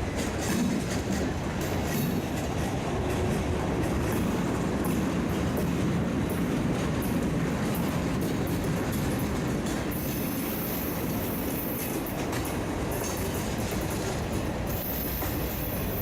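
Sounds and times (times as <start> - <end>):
clicks at rail joints: 0.0 - 10.2, 11.7 - 15.4
train wheels rumbling on rail: 0.0 - 16.0.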